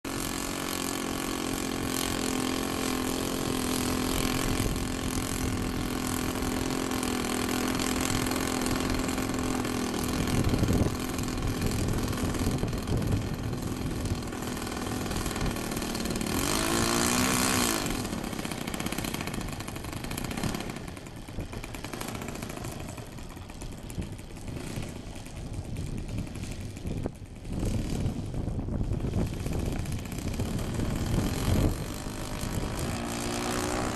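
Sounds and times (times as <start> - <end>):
model plane engine idling: 0.0 - 33.9.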